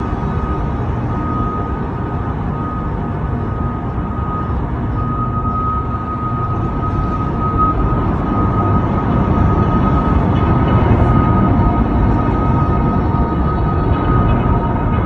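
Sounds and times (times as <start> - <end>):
high whine: 0.0 - 15.0
low engine rumble: 0.0 - 15.0.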